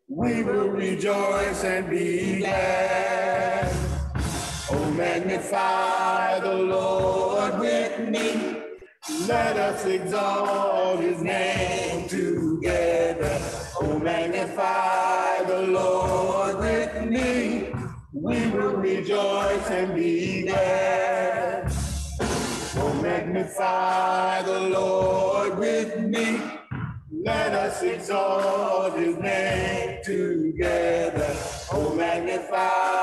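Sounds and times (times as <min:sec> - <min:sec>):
group singing a worship song: 0:00.0 - 0:33.0.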